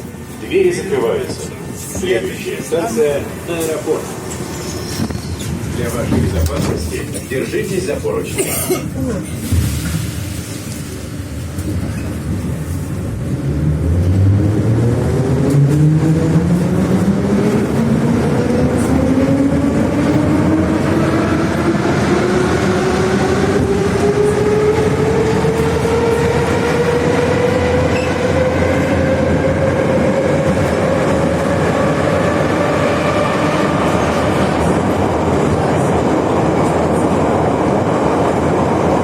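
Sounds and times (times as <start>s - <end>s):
wheels rumbling on rail: 0.0s - 39.0s.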